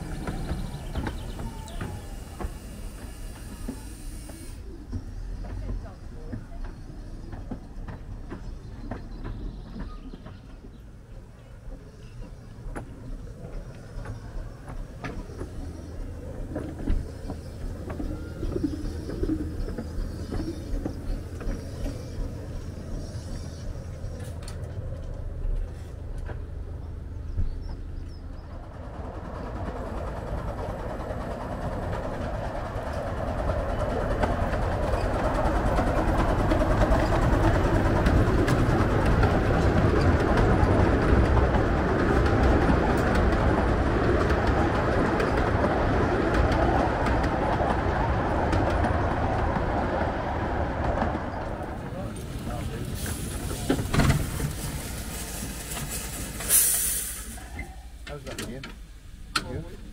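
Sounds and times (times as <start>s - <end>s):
miniature steam train running: 0.0s - 59.9s.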